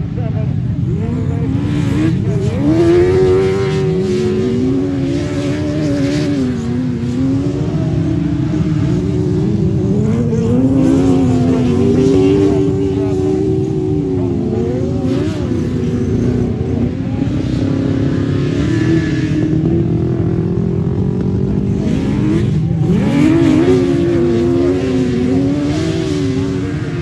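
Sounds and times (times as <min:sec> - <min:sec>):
racing engines revving: 0:00.0 - 0:27.0.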